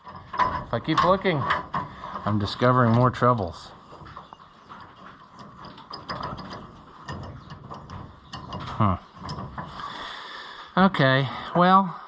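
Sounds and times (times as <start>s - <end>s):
roller chain links clicking and rattling: 0.0s - 10.0s.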